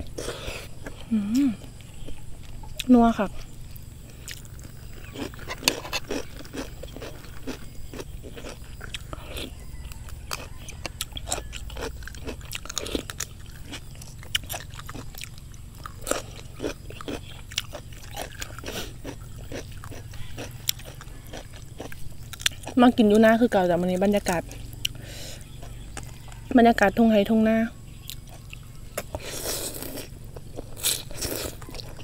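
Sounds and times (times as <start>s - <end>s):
chewing crunchy food: 0.0s - 27.0s, 27.8s - 32.0s
low steady hum: 0.0s - 32.0s.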